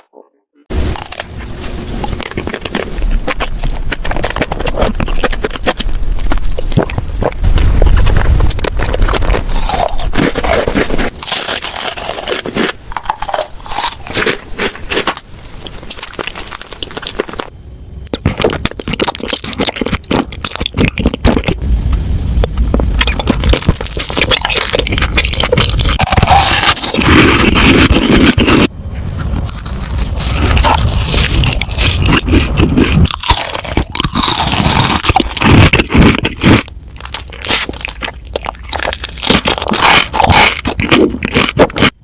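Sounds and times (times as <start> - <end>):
crunching bites: 0.7 - 42.0.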